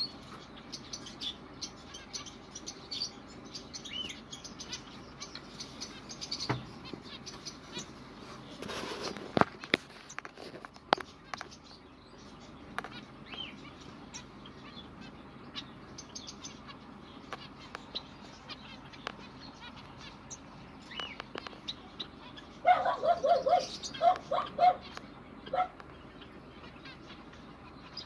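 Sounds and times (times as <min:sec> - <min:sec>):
finches chirping: 0:00.0 - 0:28.0.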